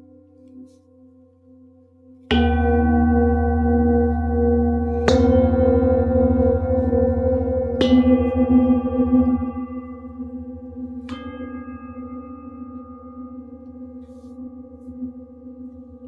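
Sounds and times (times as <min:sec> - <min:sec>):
singing bowls struck with mallet: 0:02.3 - 0:16.0.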